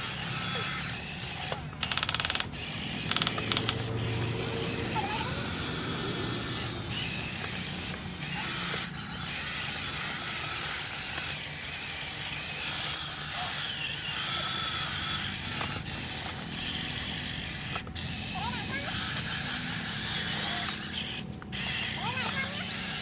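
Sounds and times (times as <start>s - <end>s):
toy truck motor whirring: 0.0s - 23.0s.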